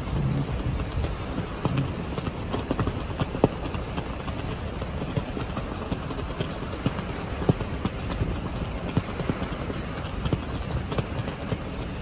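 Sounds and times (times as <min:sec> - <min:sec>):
strong wind buffeting: 0:00.0 - 0:12.0.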